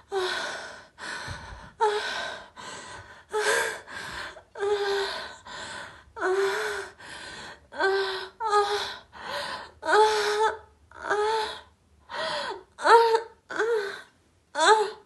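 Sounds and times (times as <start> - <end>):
woman gasping and moaning: 0.0 - 15.0.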